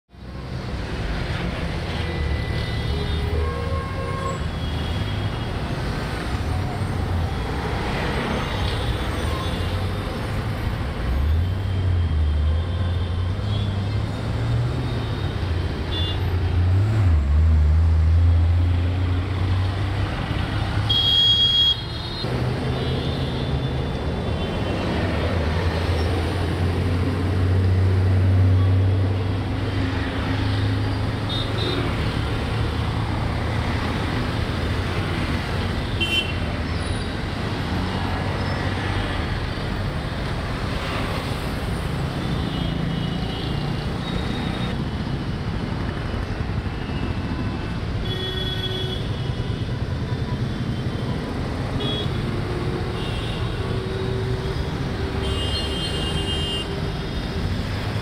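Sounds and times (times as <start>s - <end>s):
traffic engines rumbling: 0.1s - 58.0s.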